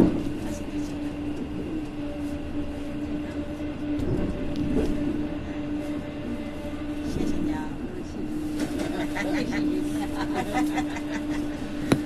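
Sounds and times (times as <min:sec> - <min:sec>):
low hum: 0:00.0 - 0:12.0
train rolling on rails: 0:00.0 - 0:12.0.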